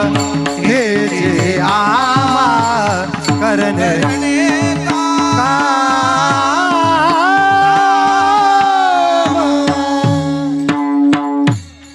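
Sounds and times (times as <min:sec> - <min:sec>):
man singing devotional song: 0:00.0 - 0:11.9.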